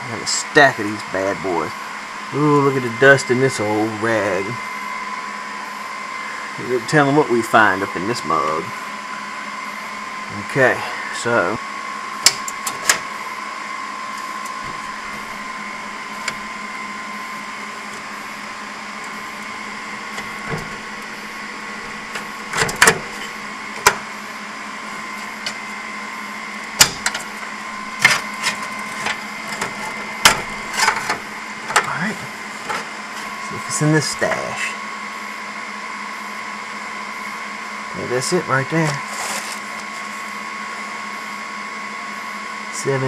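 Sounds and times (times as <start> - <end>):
steady electronic hum with whine: 0.0 - 43.0.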